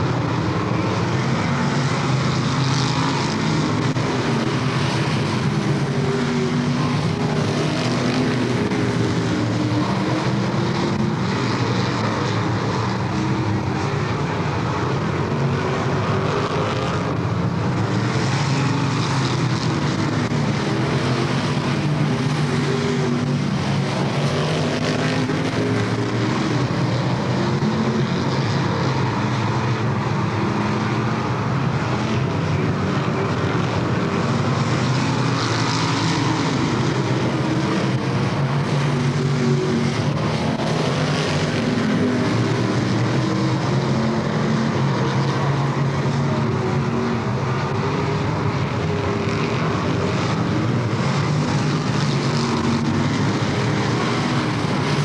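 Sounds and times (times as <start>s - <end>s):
race car engines passing: 0.0s - 55.0s.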